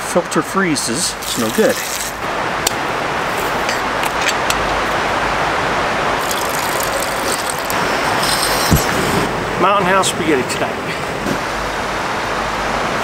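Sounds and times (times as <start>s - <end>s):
river rushing: 0.7s - 13.0s.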